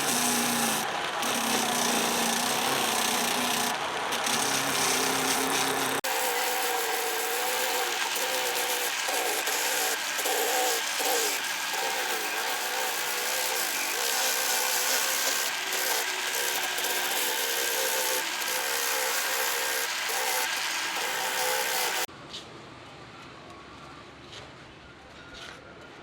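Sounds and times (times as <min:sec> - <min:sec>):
power tool motor running: 0:00.0 - 0:22.1.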